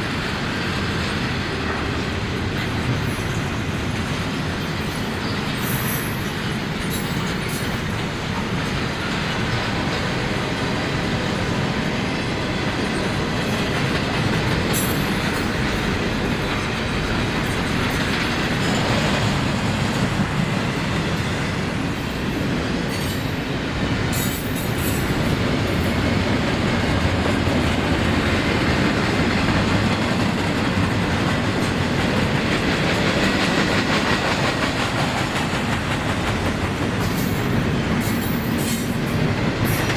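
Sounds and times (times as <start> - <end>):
train wheels clacking over rail joints: 0.0 - 39.9
train wheels squealing: 0.1 - 39.9.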